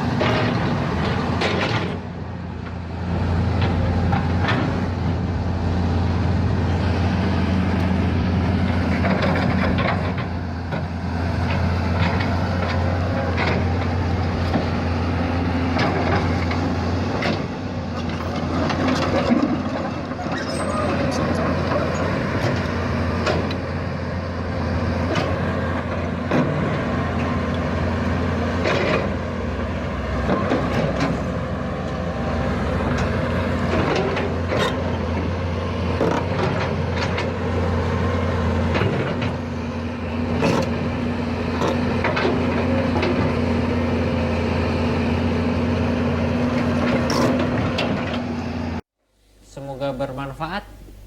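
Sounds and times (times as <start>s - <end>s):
diesel excavator engine running: 0.0s - 48.8s.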